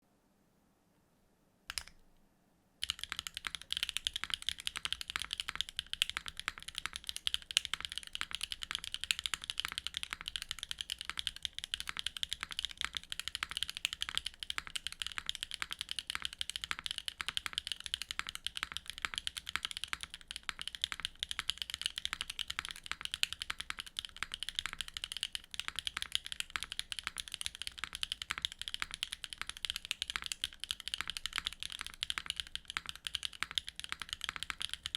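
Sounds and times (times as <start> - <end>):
mechanical keyboard typing: 1.7 - 2.0, 2.8 - 34.9.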